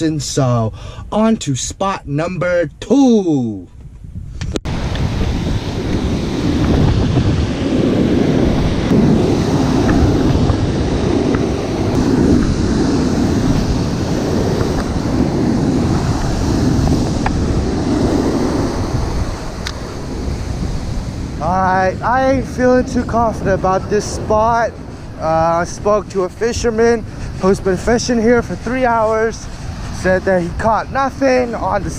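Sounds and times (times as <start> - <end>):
wind buffeting microphone: 3.6 - 31.9
ocean surf: 4.7 - 31.9.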